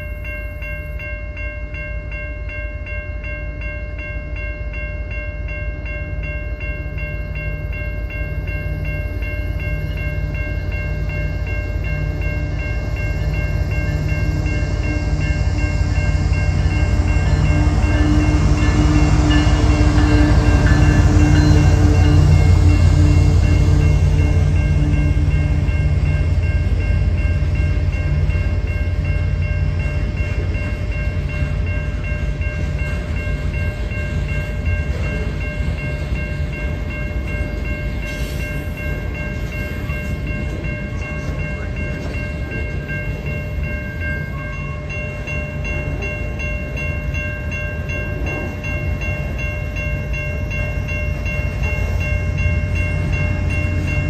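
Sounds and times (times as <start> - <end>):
crossing signal bells ringing: 0.0 - 54.0
freight train wheels rumbling: 0.0 - 54.0.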